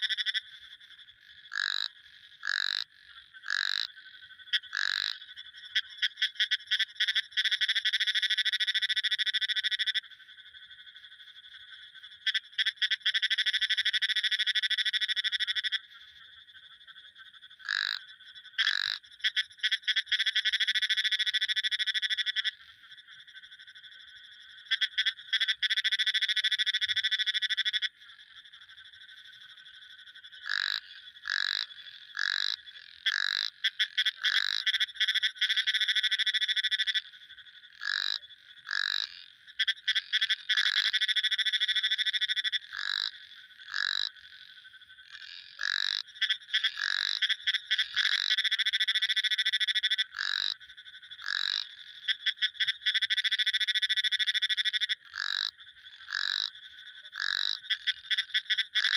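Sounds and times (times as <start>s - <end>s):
frogs calling in pulsed trills: 0.0s - 58.9s.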